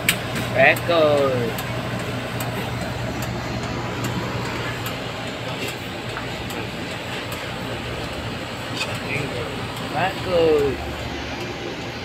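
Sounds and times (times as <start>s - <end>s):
refrigeration machinery hum: 0.0s - 12.0s.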